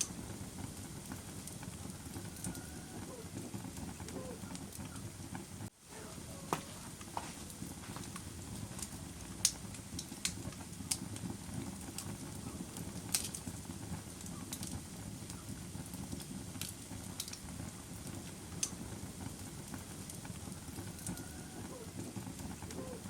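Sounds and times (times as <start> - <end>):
bonfire crackling: 0.0 - 23.0.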